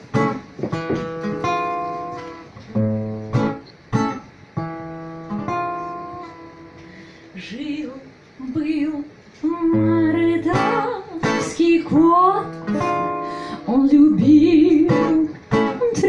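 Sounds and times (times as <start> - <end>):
acoustic guitar strummed chords: 0.0 - 8.0, 9.5 - 16.0.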